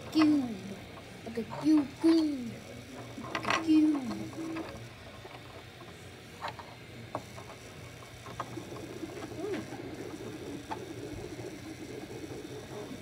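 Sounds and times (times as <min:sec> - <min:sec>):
stepper motors whirring: 0:00.0 - 0:13.0
three-d printer humming: 0:00.0 - 0:13.0.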